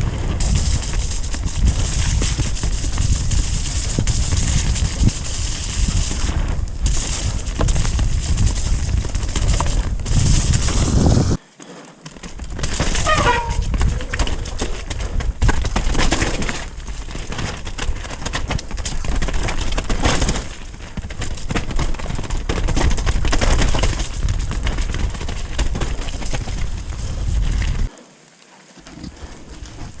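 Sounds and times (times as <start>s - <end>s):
bike rattling and knocking: 0.0s - 11.4s, 12.0s - 27.9s
wind rush on microphone: 0.0s - 11.4s, 12.4s - 27.9s.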